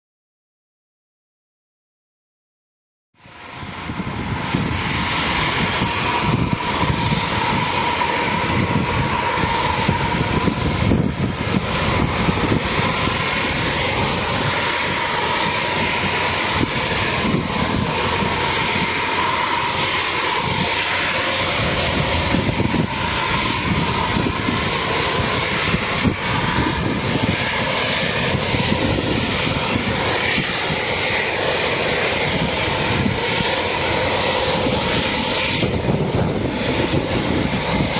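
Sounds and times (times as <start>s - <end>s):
jet engines roaring: 3.2s - 37.9s.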